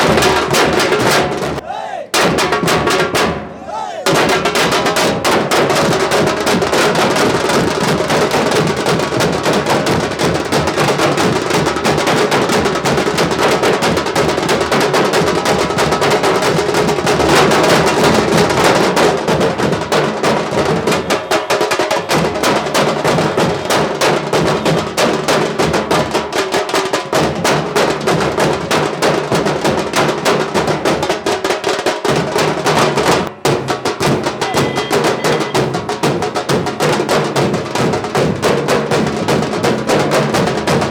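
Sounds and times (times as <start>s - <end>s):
barrel drums beating: 0.0s - 40.9s
sharp snare drums: 0.0s - 40.9s.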